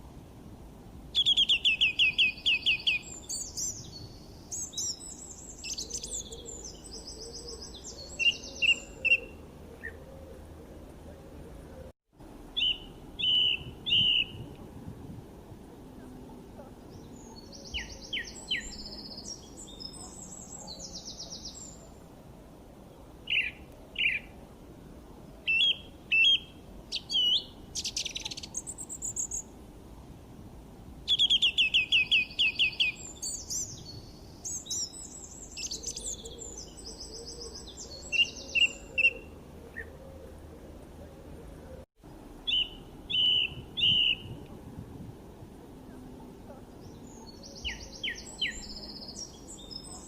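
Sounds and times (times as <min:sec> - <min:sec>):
songbirds singing: 0:01.1 - 0:11.9, 0:12.5 - 0:14.6, 0:15.8 - 0:22.1, 0:22.8 - 0:24.4, 0:25.2 - 0:29.5, 0:31.1 - 0:44.6, 0:45.7 - 0:50.0.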